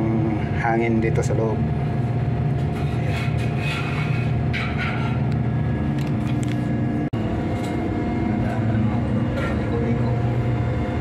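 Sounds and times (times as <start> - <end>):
ship machinery rumbling: 0.0 - 11.0.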